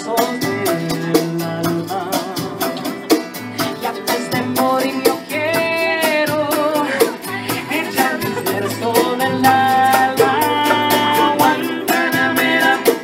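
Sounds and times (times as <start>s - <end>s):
acoustic guitar: 0.0s - 13.0s
drum and percussion beat: 0.0s - 13.0s
person singing melody: 0.0s - 13.0s.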